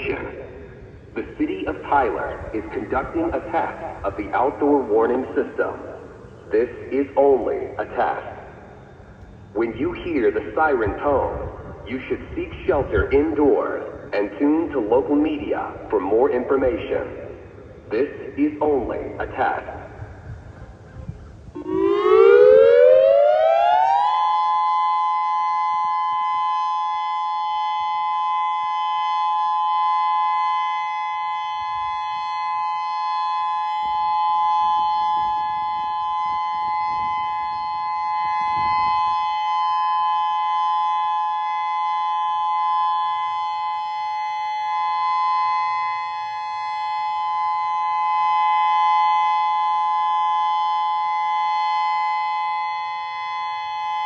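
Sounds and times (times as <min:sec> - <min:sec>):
electronic tornado siren: 0:00.0 - 0:54.0.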